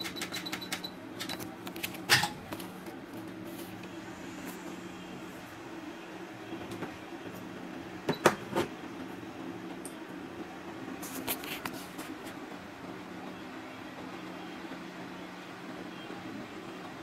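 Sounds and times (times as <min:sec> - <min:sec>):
repair equipment humming: 0:00.0 - 0:17.0.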